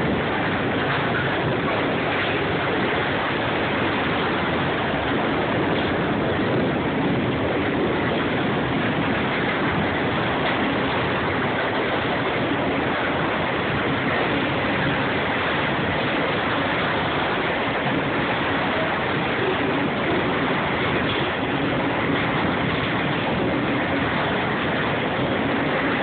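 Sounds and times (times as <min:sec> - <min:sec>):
steel train wheels on rails: 0:00.0 - 0:26.0.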